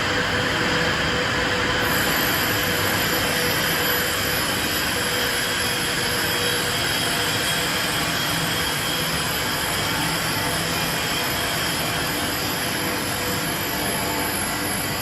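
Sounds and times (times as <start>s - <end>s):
faint machine whine: 0.0s - 15.0s
forging machine running: 1.7s - 15.0s.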